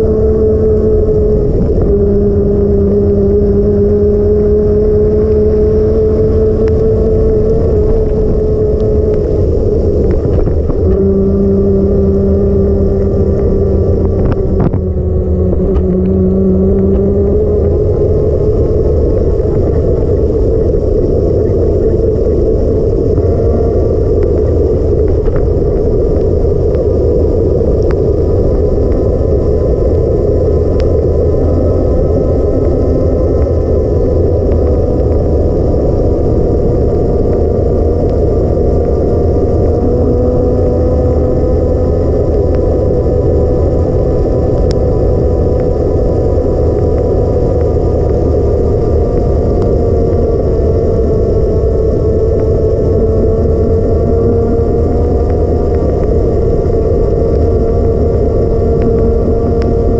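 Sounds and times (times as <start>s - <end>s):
steady whine: 0.0s - 59.9s
wind on microphone: 0.0s - 59.9s.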